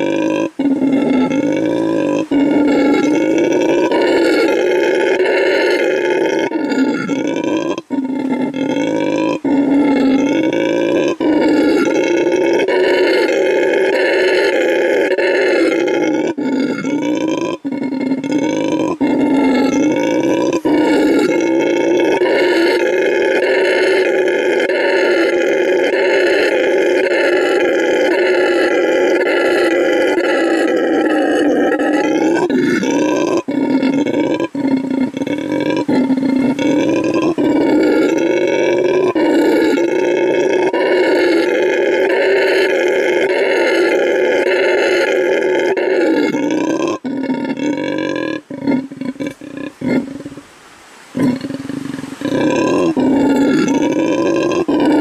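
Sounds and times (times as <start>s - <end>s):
howler monkey howling: 0.0s - 50.5s, 51.2s - 55.0s.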